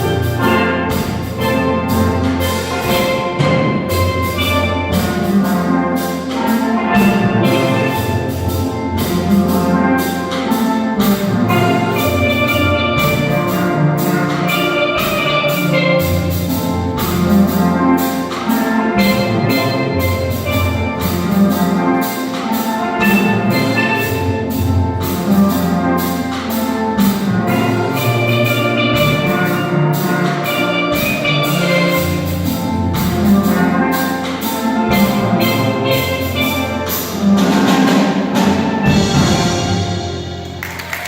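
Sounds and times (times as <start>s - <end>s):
steel drum ensemble playing: 0.0s - 41.0s.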